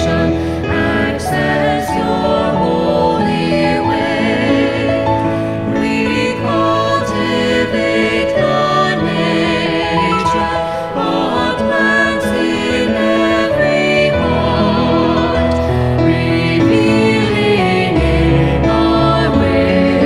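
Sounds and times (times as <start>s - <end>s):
musical accompaniment: 0.0s - 20.0s
people singing a hymn: 0.0s - 20.0s.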